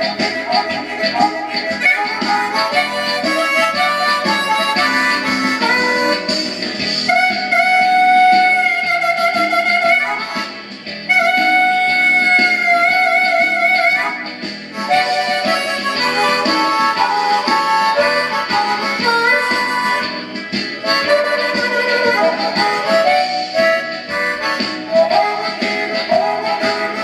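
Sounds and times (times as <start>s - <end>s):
amplified blues harmonica: 0.0s - 27.0s
backing track with steady beat: 0.0s - 27.0s.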